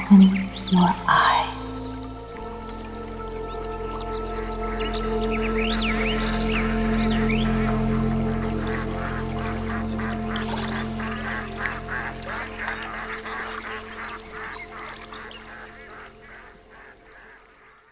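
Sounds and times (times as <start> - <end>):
ducks or geese calling: 0.0 - 17.4
low music drone: 0.0 - 17.8.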